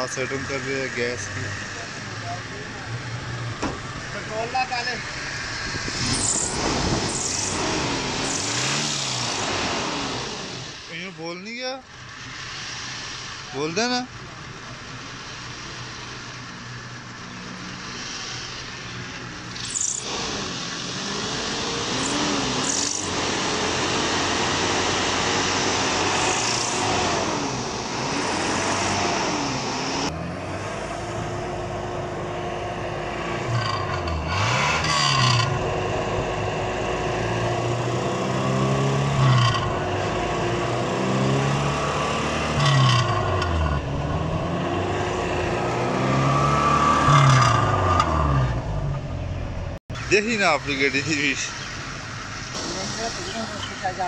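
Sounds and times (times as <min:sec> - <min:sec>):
petrol engine revving: 0:00.0 - 0:54.0.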